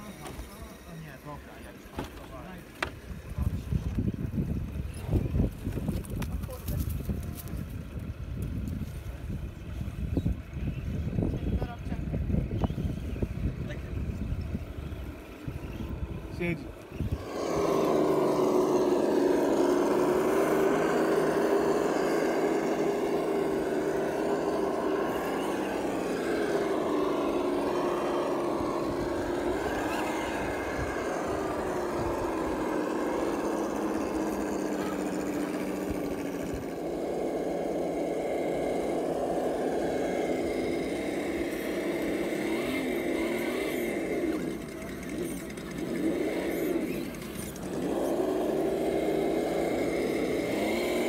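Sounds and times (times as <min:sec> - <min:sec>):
toy truck electric motor whining: 0:00.0 - 0:04.1, 0:12.8 - 0:51.0.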